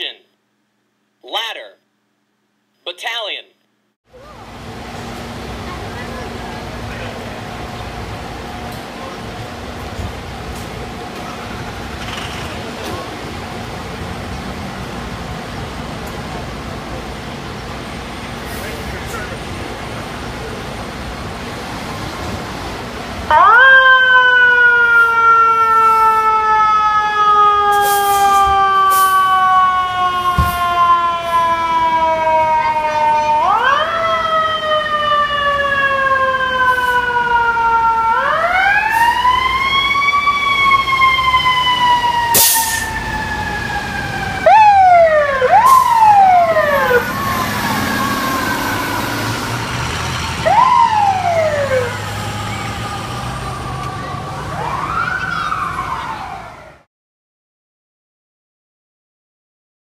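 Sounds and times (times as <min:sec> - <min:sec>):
fire truck siren wailing: 0:04.1 - 0:56.9.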